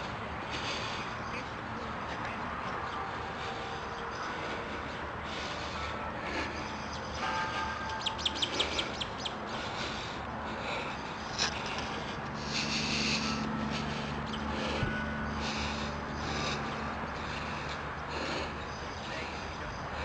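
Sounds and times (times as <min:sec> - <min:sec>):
birds chirping: 0:00.0 - 0:20.0
steady low background noise: 0:00.0 - 0:20.0.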